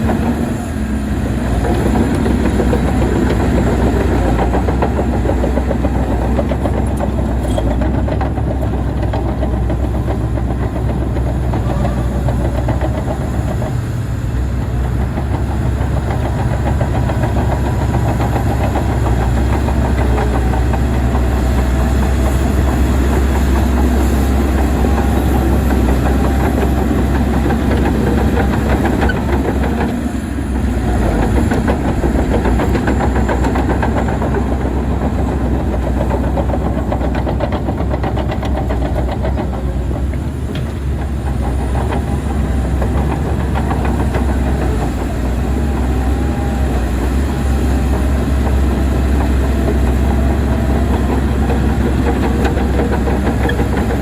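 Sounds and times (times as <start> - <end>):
heavy diesel machinery droning: 0.0 - 54.0
machinery rattle: 0.0 - 54.0.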